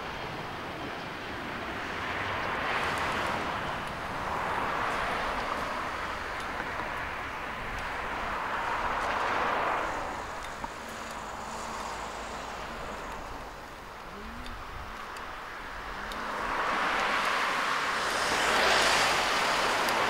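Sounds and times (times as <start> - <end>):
cars passing tyre noise: 0.0 - 20.0.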